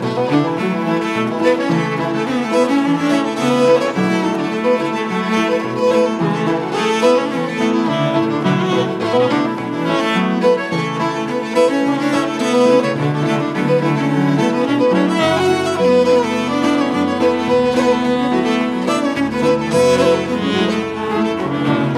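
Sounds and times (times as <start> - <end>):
bowed cello and fiddle: 0.0 - 21.9
piano: 0.0 - 21.9.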